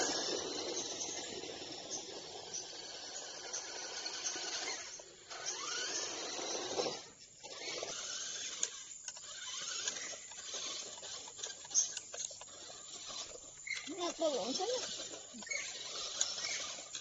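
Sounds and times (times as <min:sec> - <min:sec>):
toy truck electric motors whining: 0:00.0 - 0:17.0.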